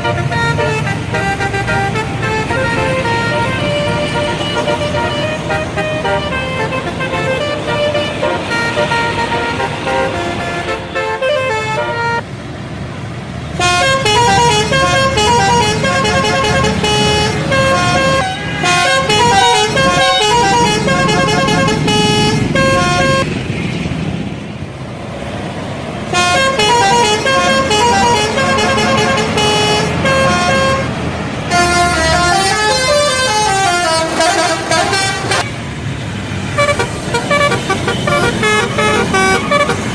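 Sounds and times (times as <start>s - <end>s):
bus multi-tone air horns: 0.0s - 12.2s, 13.6s - 23.4s, 26.1s - 35.6s, 36.4s - 39.9s.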